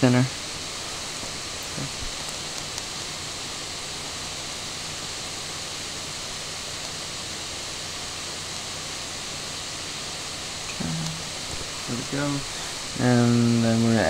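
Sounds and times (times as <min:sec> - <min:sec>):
faint low hum: 0:00.0 - 0:14.0
microphone hiss: 0:00.0 - 0:14.0.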